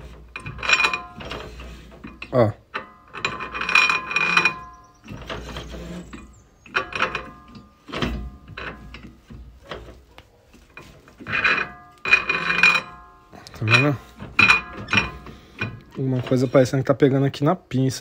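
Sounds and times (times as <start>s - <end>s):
brake disc scraping and squealing: 0.0s - 16.9s.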